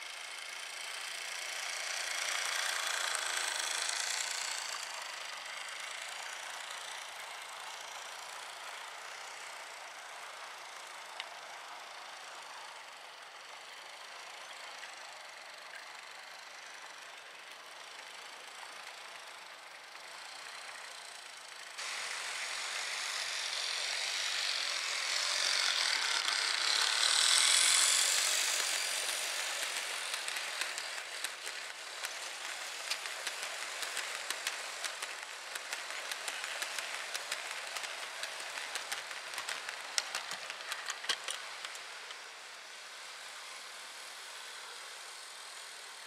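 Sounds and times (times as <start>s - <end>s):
wheels clicking over rail joints: 0.0s - 42.7s
model train rushing on track: 0.0s - 46.0s.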